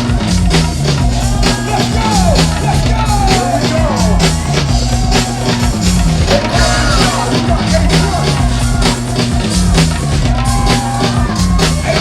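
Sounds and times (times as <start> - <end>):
music with pounding beat: 0.0 - 12.0.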